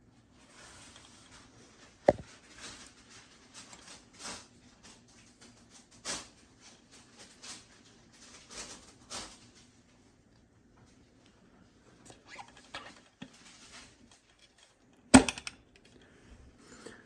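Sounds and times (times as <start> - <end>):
light scrapes and rustles: 0.4 - 10.2, 10.8 - 14.8.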